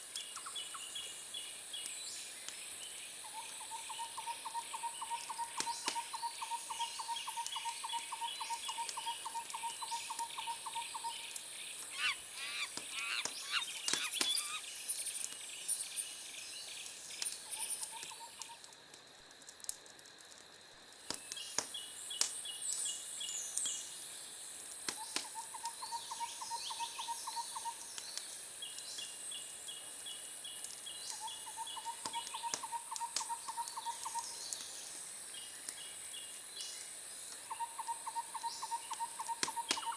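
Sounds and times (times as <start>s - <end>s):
crackling wood fire: 0.0s - 39.9s.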